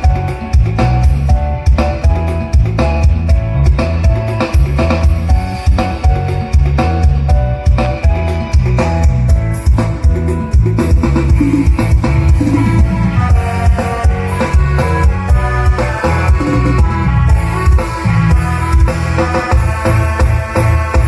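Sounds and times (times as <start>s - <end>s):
loud band music: 0.0s - 21.0s.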